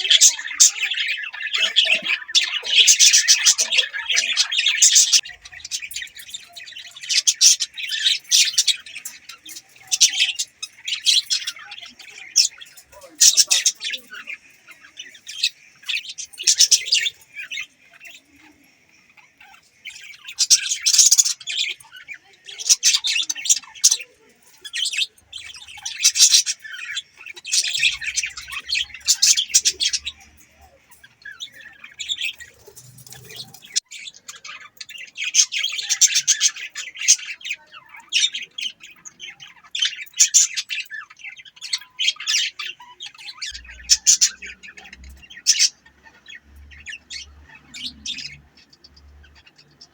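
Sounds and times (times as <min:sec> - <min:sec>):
budgerigars chirping and chattering: 0:00.0 - 0:49.9.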